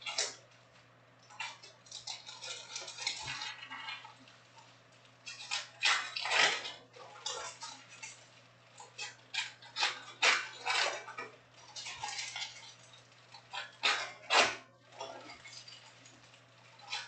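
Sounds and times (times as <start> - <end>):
foil wrappers crinkling: 0.0 - 17.0.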